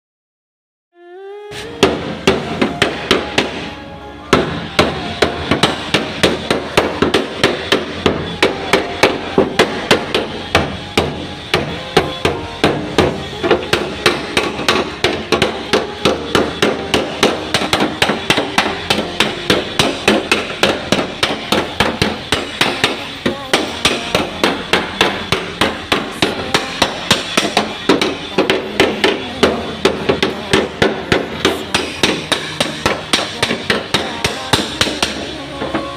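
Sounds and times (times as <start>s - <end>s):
hammer beating sheet metal: 1.6s - 35.9s.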